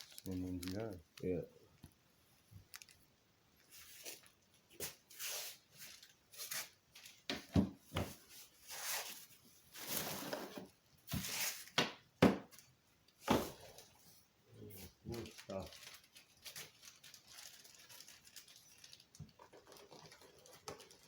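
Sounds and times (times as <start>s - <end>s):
packaging rustling and crinkling: 0.0s - 1.5s, 2.5s - 11.8s, 12.5s - 14.1s, 14.8s - 21.0s.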